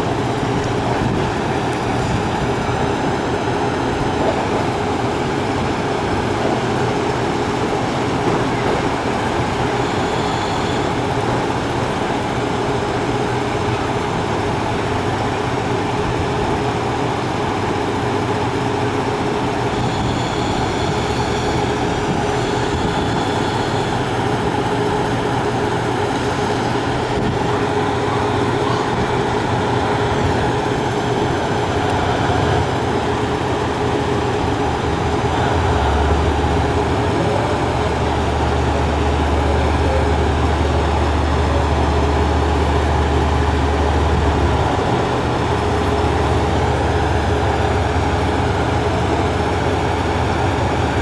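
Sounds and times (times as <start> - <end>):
diesel railcar engines idling: 0.0 - 51.0.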